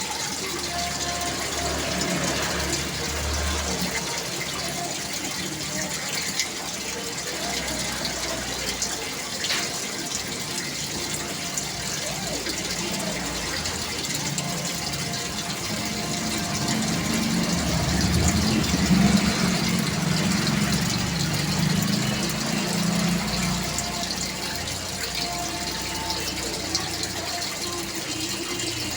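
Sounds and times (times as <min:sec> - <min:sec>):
water splashing into aquarium: 0:00.0 - 0:28.9.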